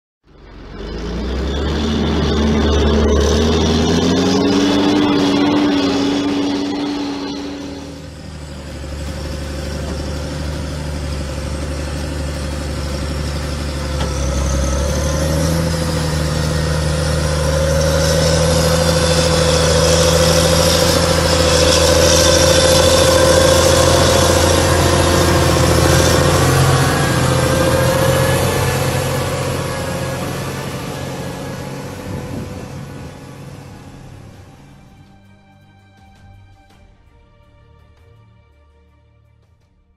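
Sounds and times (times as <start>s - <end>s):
diesel tractor engine under load: 0.2s - 35.5s
steady whine: 0.3s - 36.0s.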